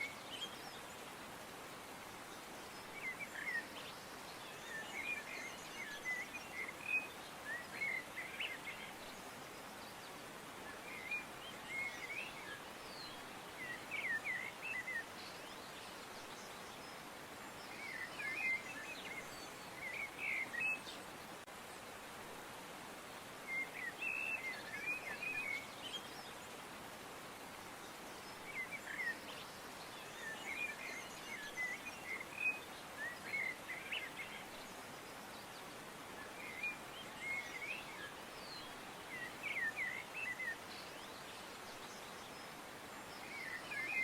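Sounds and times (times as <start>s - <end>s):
small songbirds chirping: 0.0s - 44.0s
steady background hiss: 0.0s - 44.0s.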